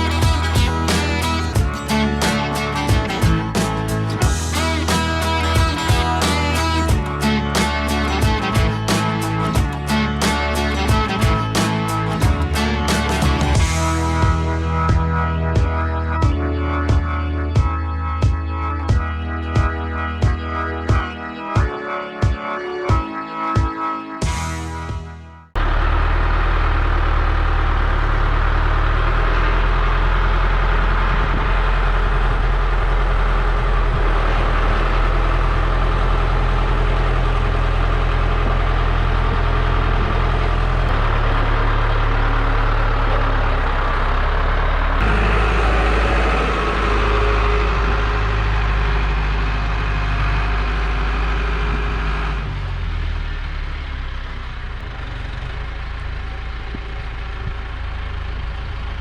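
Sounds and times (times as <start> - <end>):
heavy vehicle engine running: 0.0 - 21.3, 24.2 - 59.0.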